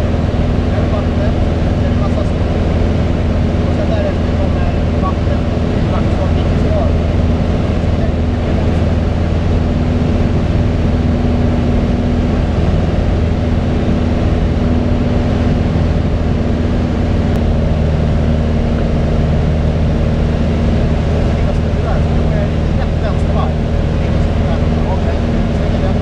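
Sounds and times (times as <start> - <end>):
aircraft engine droning: 0.0 - 26.0.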